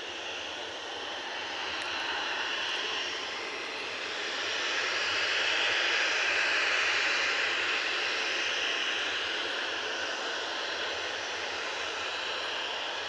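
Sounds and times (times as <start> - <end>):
jet engines hissing: 0.0 - 13.0.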